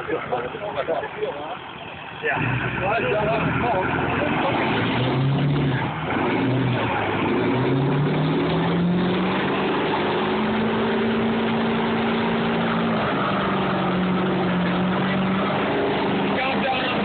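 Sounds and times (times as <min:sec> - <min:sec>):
vehicle engine revving: 0:01.6 - 0:17.0.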